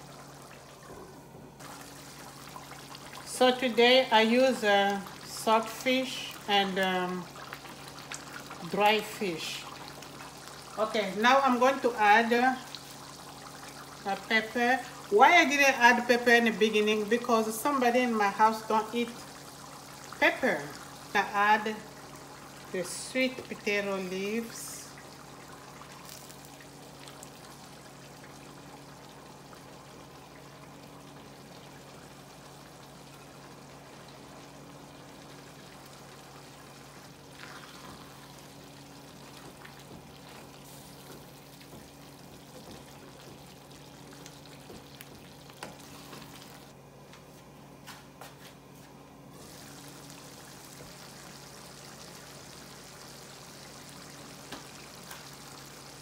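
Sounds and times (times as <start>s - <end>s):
stew simmering and bubbling: 0.0s - 56.0s.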